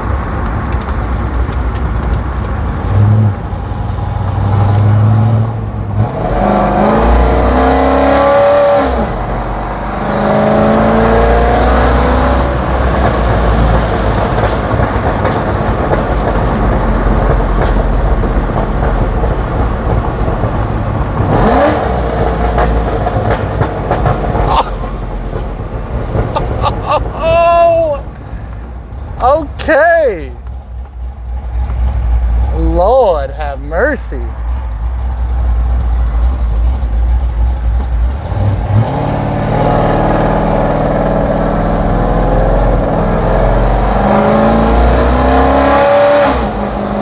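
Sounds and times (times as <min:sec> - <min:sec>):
car engine revving: 0:02.5 - 0:30.4, 0:34.8 - 0:47.0.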